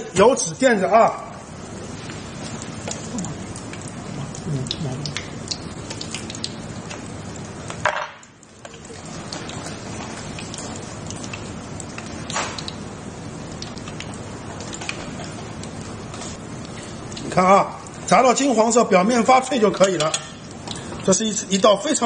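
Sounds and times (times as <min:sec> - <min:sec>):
oil sizzling and popping: 0:01.3 - 0:21.8.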